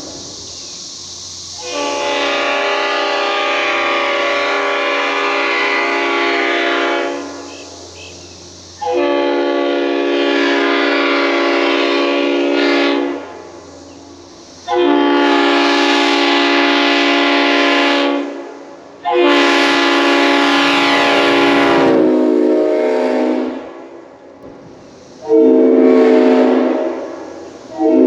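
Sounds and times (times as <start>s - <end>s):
locomotive horn blasts: 1.6s - 13.5s, 14.6s - 24.0s, 25.2s - 28.0s.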